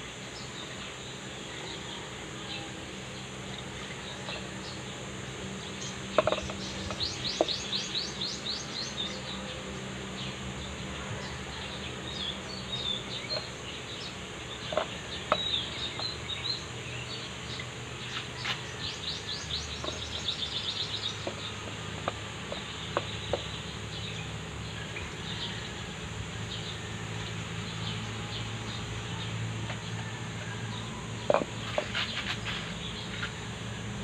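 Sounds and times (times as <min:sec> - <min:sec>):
low steady hum: 0:00.0 - 0:34.0
small birds chirping: 0:00.0 - 0:34.0.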